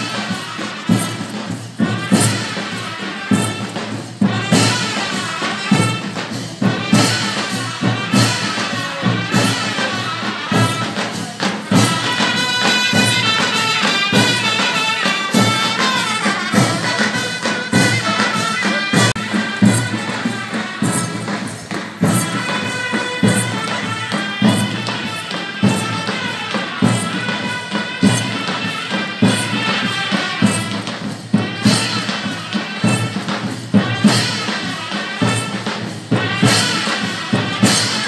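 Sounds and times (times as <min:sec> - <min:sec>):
drum beats: 0:00.0 - 0:38.0
jingling cymbals: 0:00.0 - 0:38.0.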